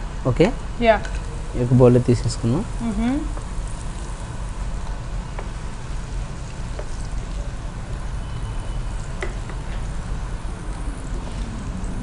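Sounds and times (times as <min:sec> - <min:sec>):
food sizzling in hot oil: 0:00.2 - 0:12.0.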